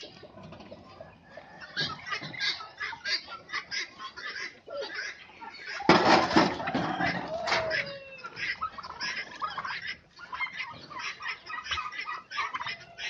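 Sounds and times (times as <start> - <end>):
poultry clucking and chirping: 0.0 - 13.0.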